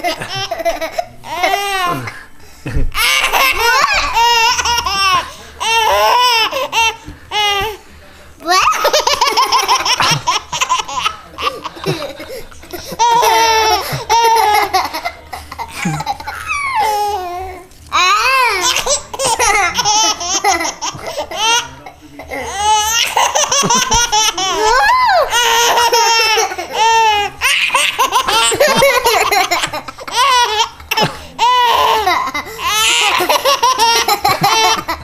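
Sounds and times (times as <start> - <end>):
baby laughing: 3.0 - 7.8, 8.5 - 35.0.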